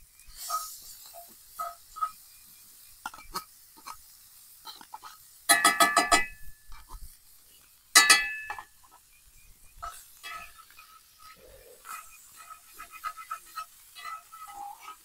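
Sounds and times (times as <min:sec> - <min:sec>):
metal utensil tapping skillet: 0:00.3 - 0:07.0, 0:07.9 - 0:15.0.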